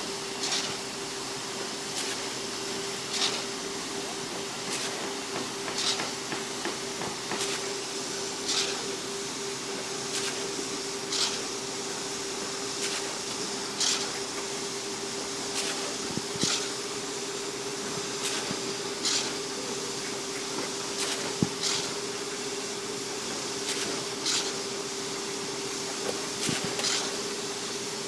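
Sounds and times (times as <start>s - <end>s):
concrete pump humming: 0.0s - 28.0s.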